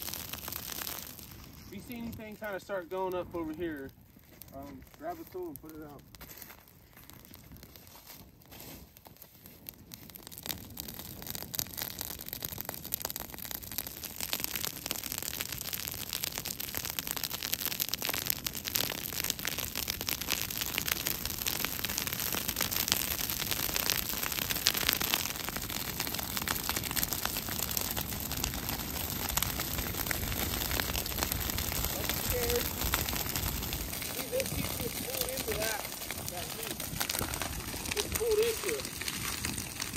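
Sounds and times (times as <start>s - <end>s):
grass fire crackling: 0.0s - 39.9s.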